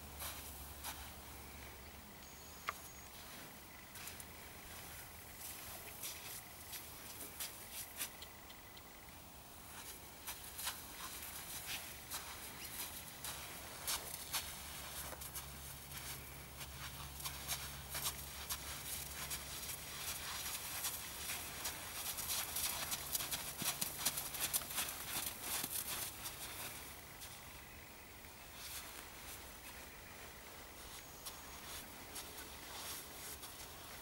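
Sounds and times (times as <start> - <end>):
hooves and boots on sand: 0.0 - 1.6, 3.0 - 8.4, 9.7 - 34.0
low steady hum: 0.0 - 34.0.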